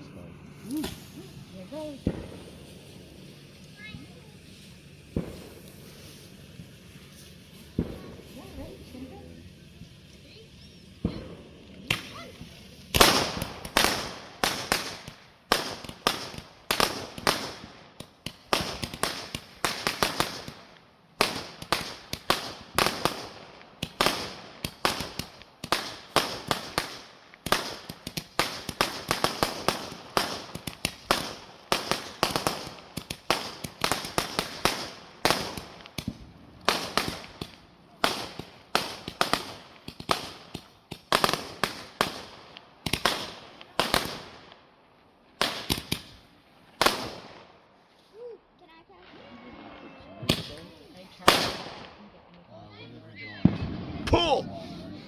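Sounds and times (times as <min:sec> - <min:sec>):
fireworks banging: 0:00.0 - 0:47.7, 0:48.9 - 0:52.3, 0:53.4 - 0:55.0.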